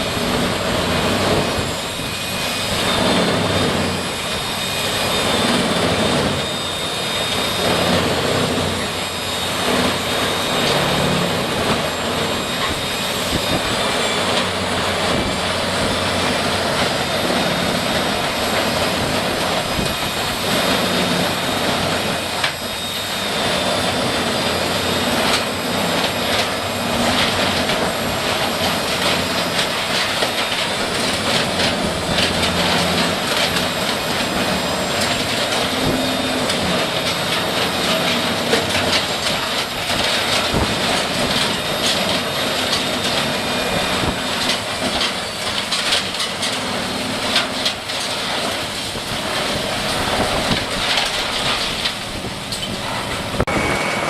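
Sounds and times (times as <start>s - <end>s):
heavy machinery running: 0.0s - 54.0s
high mechanical whine: 0.0s - 54.0s.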